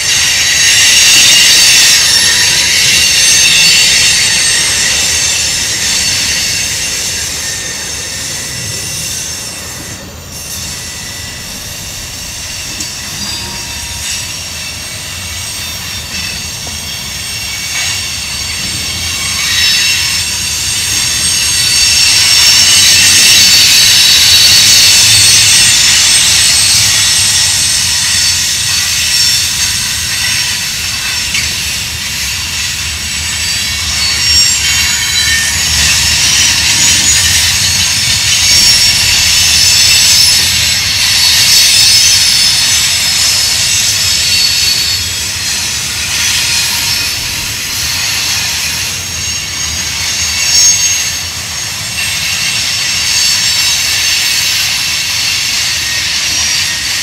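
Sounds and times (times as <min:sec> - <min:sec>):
train wheels squealing: 0:00.0 - 0:57.0
wheels rumbling on rail: 0:00.0 - 0:57.0.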